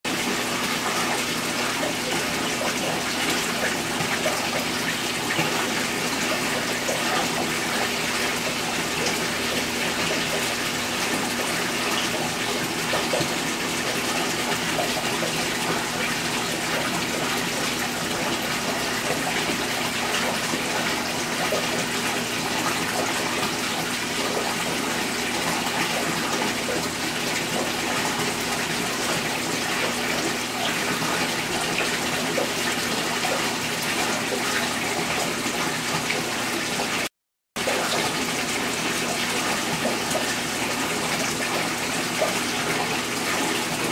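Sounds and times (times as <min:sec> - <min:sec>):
aquarium water splashing: 0:00.0 - 0:43.9.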